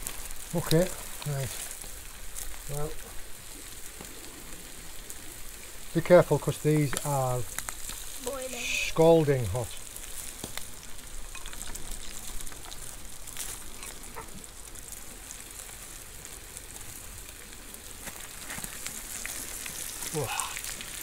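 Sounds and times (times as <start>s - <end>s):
scallops sizzling in butter: 0.0s - 21.0s.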